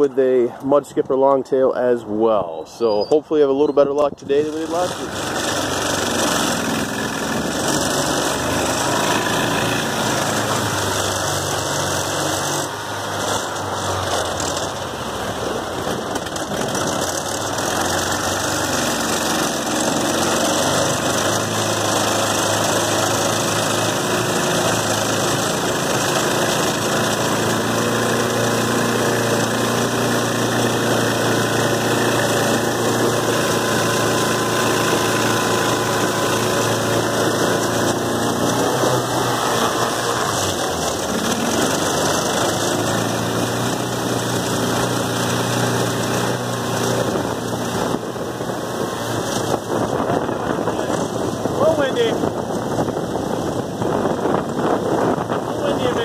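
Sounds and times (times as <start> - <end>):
wind: 0.0 - 56.0
boat motor running: 2.8 - 56.0
water noise: 4.0 - 56.0.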